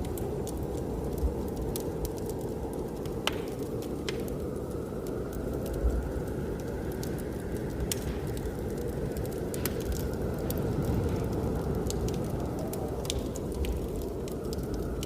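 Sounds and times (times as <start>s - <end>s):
blizzard wind rushing: 0.0s - 15.0s
wood fire crackling: 0.0s - 15.0s.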